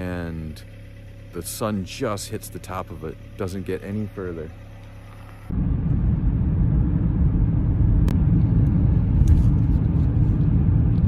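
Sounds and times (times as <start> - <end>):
car engine: 0.0 - 11.0.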